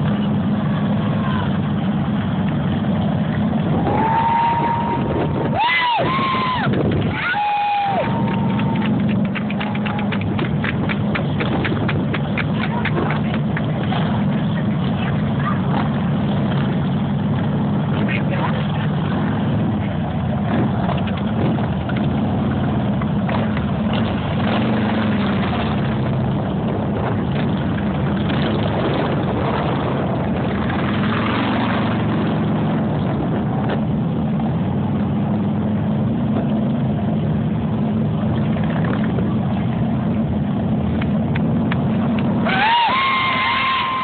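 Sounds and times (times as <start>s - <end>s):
motorcycle engines running: 0.0s - 44.0s.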